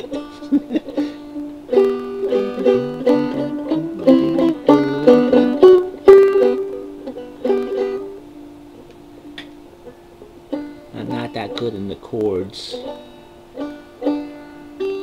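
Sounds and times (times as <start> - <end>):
banjo plucked notes and chords: 0.0 - 15.0.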